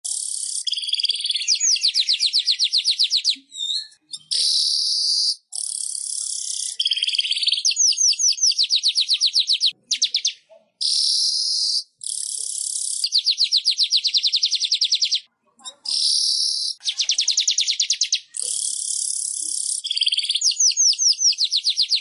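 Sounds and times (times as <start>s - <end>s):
bird rapid trills: 0.0s - 3.2s, 4.2s - 15.2s, 16.0s - 22.0s.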